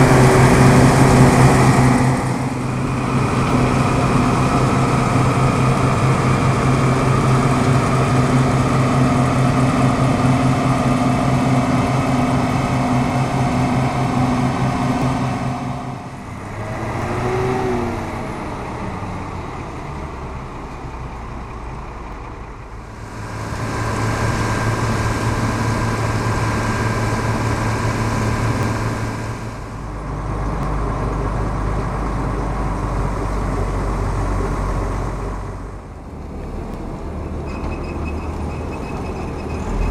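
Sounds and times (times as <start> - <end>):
combine harvester engine and machinery: 0.0 - 39.9.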